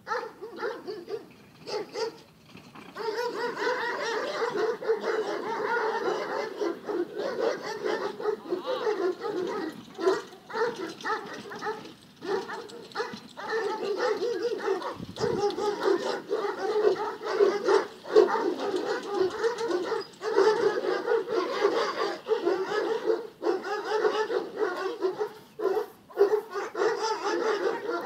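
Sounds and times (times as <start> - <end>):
dogs barking and yelping: 0.0 - 28.0.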